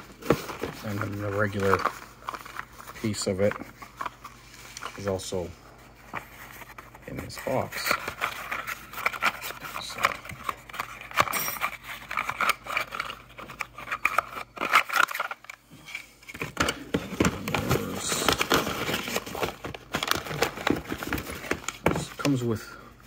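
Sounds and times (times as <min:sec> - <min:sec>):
cardboard box and paper rustling: 0:00.0 - 0:15.4, 0:16.2 - 0:22.6.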